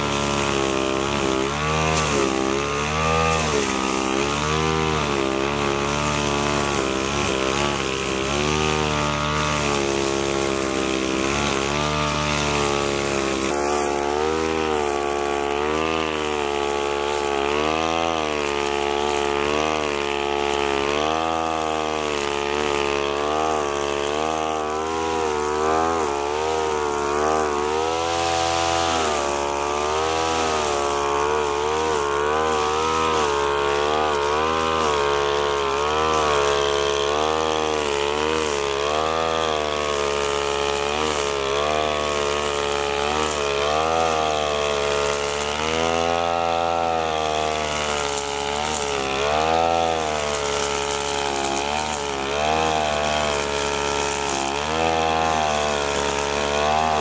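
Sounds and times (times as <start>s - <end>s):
brush cutter engine running: 0.0s - 57.0s.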